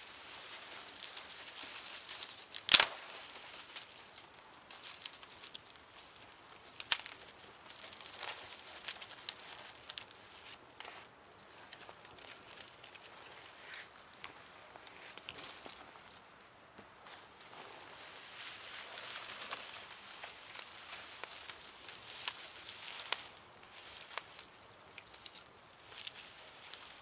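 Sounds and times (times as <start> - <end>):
wood campfire crackling: 0.0 - 27.0.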